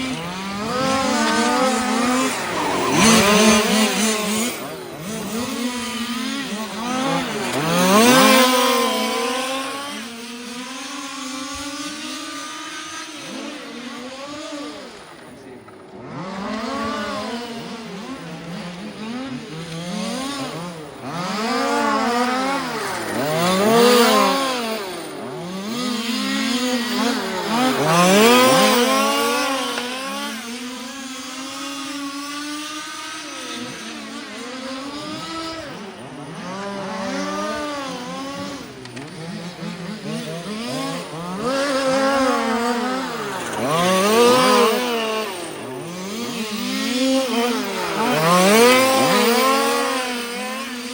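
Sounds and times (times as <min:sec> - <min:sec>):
model car engines revving: 0:00.0 - 0:50.9.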